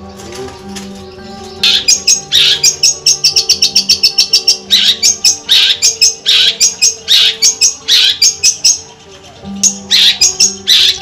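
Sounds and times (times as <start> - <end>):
bird singing rapid sharp notes: 0.0 - 11.0
soft background music: 0.0 - 11.0.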